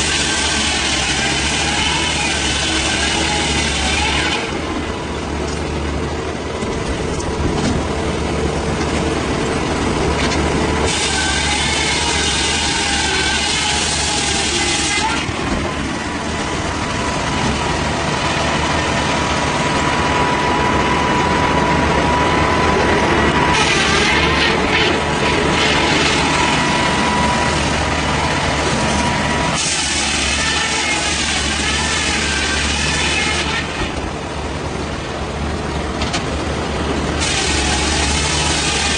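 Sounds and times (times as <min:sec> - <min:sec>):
heavy engine running: 0:00.0 - 0:38.9.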